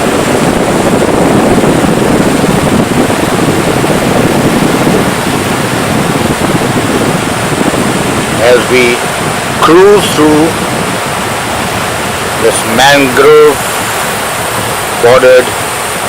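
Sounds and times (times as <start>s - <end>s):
water washing past boat: 0.0s - 16.0s
wind buffeting microphone: 0.0s - 16.0s.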